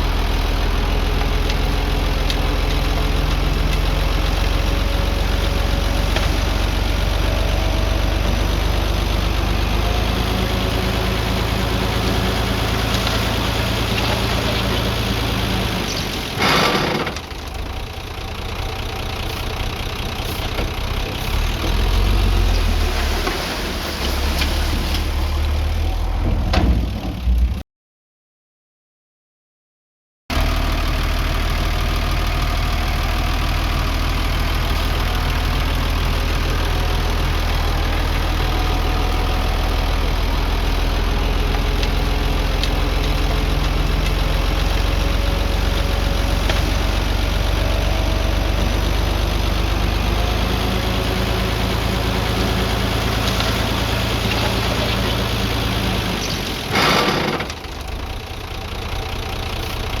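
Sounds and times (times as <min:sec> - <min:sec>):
heavy diesel engine running: 0:00.0 - 0:26.3, 0:30.3 - 1:00.0.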